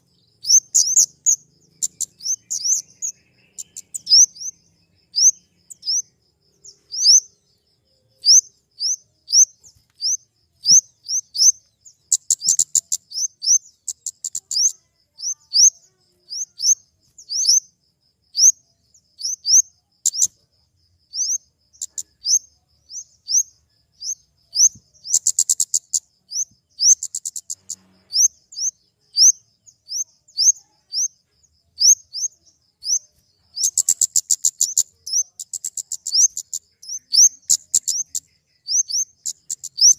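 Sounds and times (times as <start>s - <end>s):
rapid ticking bird notes: 0.0s - 15.7s, 21.1s - 30.0s, 31.8s - 39.9s
bird chirping: 0.0s - 39.9s.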